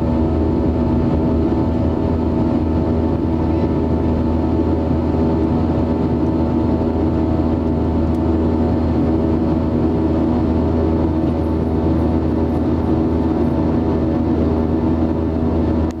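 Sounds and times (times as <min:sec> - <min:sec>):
jet engine drone in cabin: 0:00.0 - 0:16.0.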